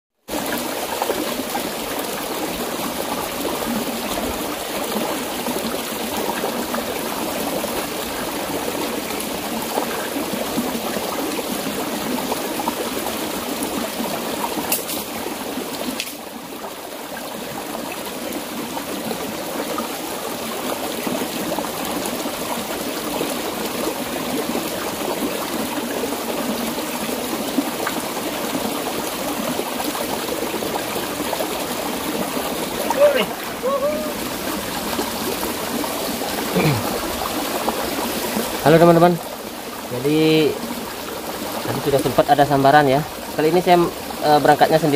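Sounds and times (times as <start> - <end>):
stream flowing over rocks: 0.2 - 44.9.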